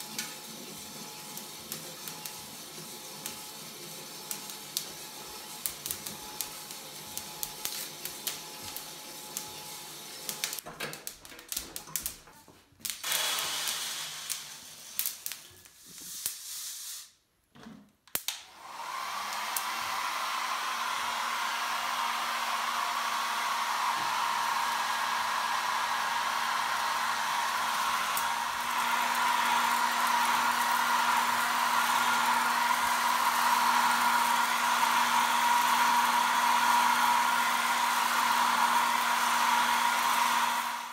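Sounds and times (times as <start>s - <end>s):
hair dryer blowing: 0.0s - 10.6s, 13.0s - 15.3s, 18.3s - 40.9s.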